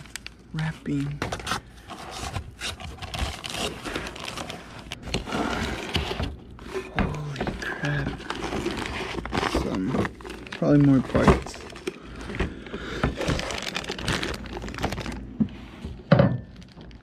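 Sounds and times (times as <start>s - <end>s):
packing paper and plastic rustling: 0.0s - 17.0s.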